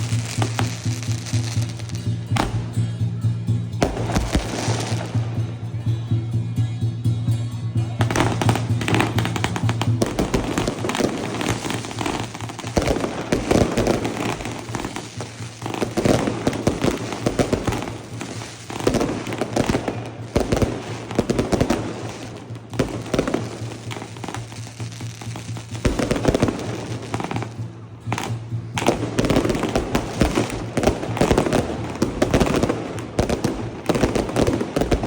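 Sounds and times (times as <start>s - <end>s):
fireworks crackling: 0.0s - 6.6s, 7.8s - 35.0s.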